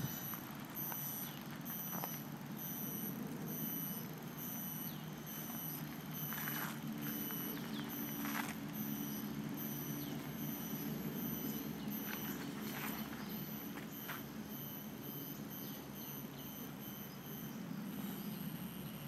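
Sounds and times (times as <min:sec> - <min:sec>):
pulsing high-pitched tone: 0:00.0 - 0:19.0
steady low hum: 0:00.0 - 0:19.0.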